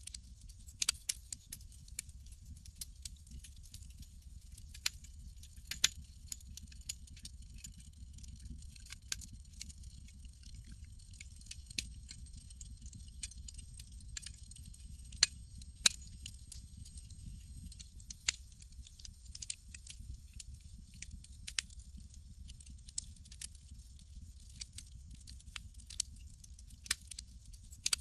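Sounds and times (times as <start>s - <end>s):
campfire crackles and pops: 0.0s - 28.0s
low rumble of flame: 0.0s - 28.0s.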